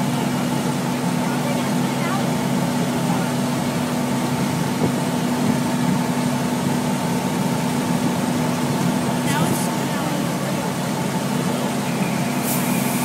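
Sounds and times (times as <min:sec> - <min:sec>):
fire engine diesel engine running: 0:00.0 - 0:13.0.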